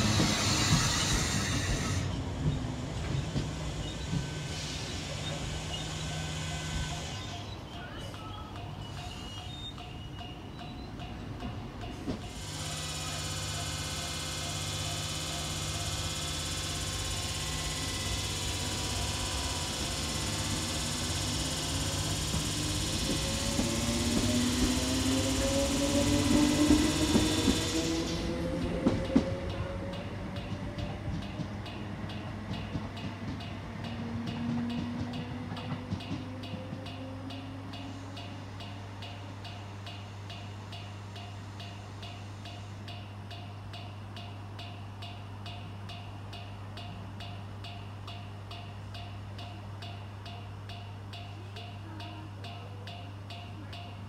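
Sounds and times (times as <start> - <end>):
electric train equipment humming: 0.0 - 54.0.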